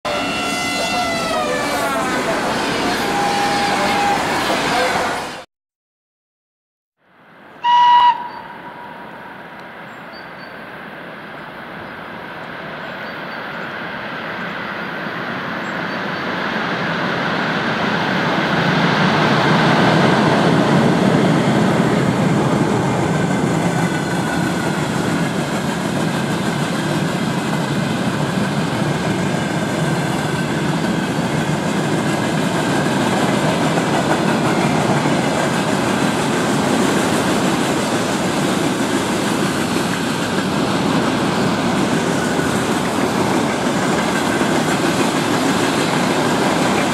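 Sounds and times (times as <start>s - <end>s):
freight train rolling past: 0.1s - 5.4s, 7.6s - 46.9s.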